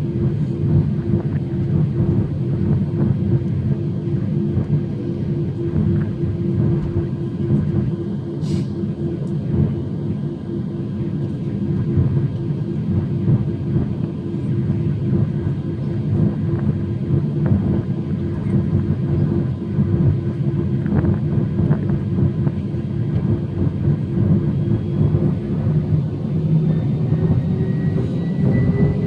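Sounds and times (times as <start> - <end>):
jet airliner engines running: 0.0 - 29.0.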